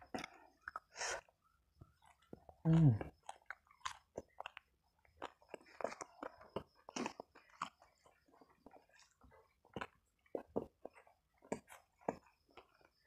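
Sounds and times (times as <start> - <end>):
close-up chewing mouth smacks: 0.0 - 13.0.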